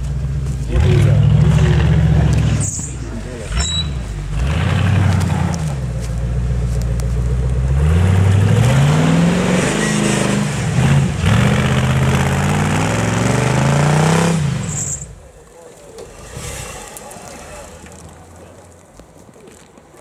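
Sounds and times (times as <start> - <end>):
engine revving hard: 0.0 - 6.1, 7.6 - 15.2, 16.0 - 18.4.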